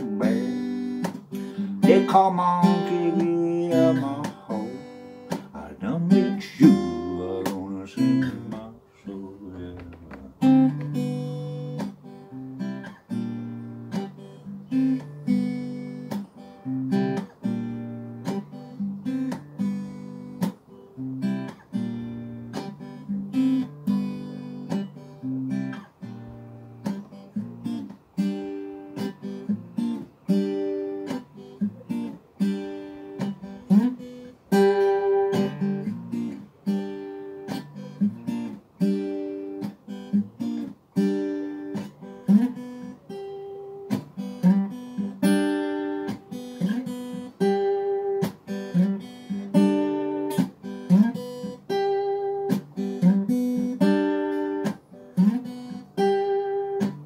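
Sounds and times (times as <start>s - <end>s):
acoustic guitar playing: 0.0s - 57.0s.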